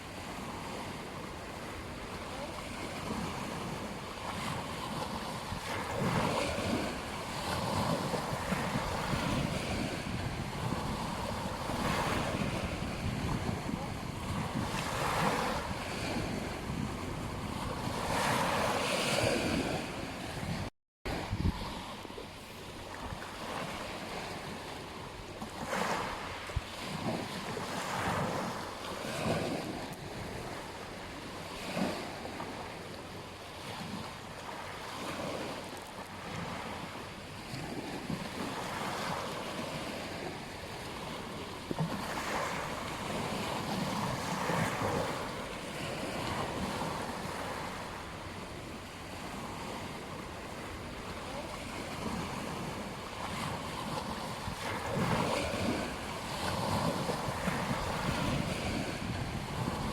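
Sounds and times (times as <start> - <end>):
waves breaking on a beach: 0.0 - 59.9
wind on microphone: 0.0 - 59.9.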